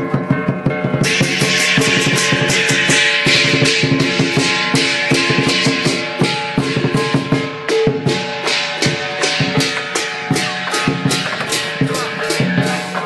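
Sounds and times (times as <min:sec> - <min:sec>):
cymbals clashing: 0:00.0 - 0:13.0
drum beating: 0:00.0 - 0:13.0.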